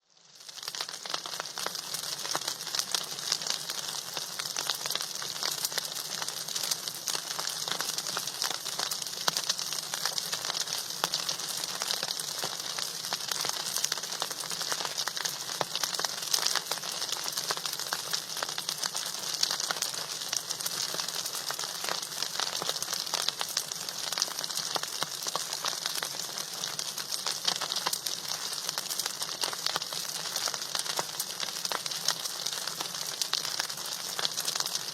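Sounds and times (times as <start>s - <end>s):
food frying in hot oil: 0.0s - 34.9s.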